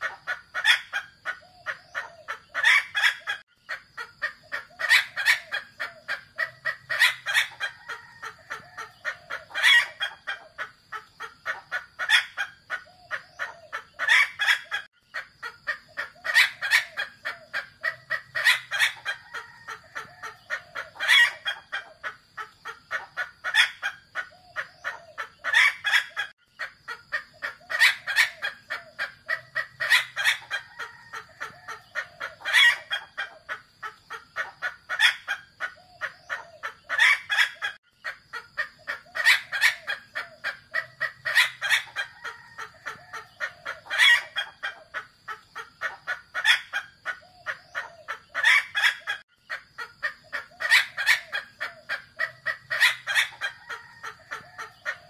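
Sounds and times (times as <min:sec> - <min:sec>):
junglefowl clucking and calling: 0:00.0 - 0:55.0.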